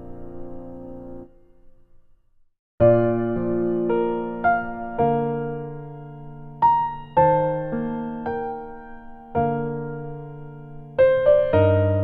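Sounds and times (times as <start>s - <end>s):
slow soft piano: 0.0s - 12.0s.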